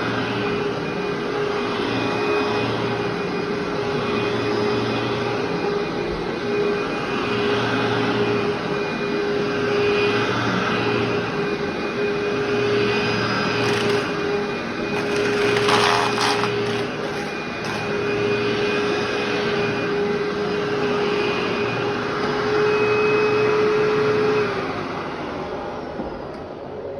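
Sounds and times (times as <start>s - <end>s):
vacuum cleaner on carpet: 0.0s - 26.4s.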